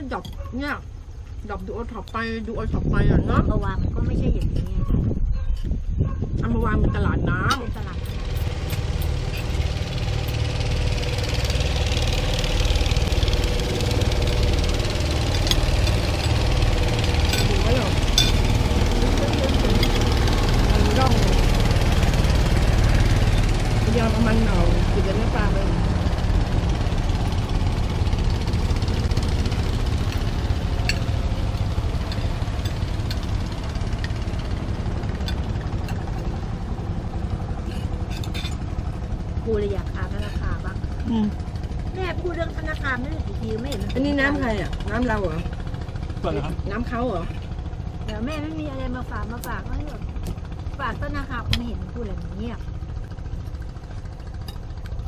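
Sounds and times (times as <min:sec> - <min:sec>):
motorboat engine knocking: 0:07.5 - 0:55.0.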